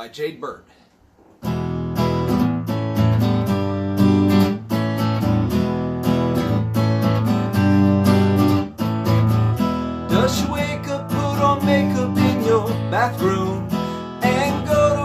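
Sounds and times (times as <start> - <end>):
acoustic guitar strumming: 1.4 - 15.0.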